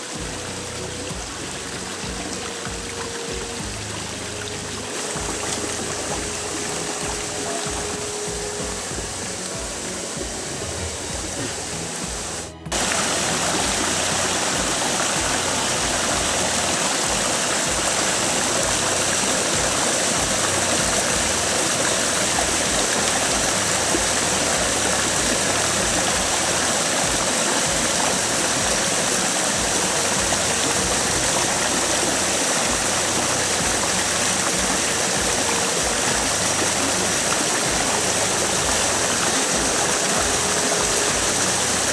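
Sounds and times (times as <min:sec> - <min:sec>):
creek water rushing over rocks: 0:00.0 - 0:41.9.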